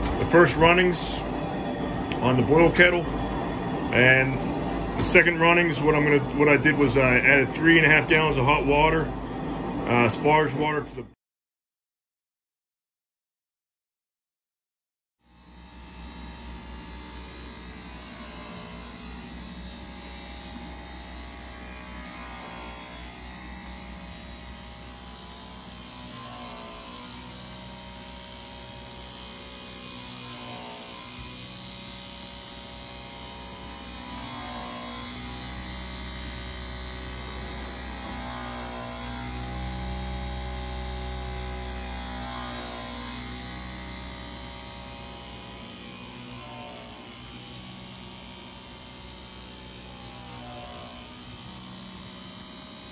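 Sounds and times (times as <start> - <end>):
pump humming: 0.0 - 11.0, 15.3 - 52.9.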